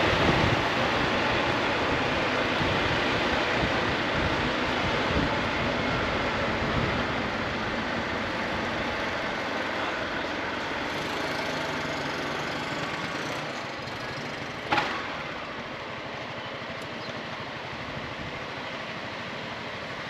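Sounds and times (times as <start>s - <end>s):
scooter engine running: 0.0s - 20.0s
wind and road noise: 0.0s - 20.0s.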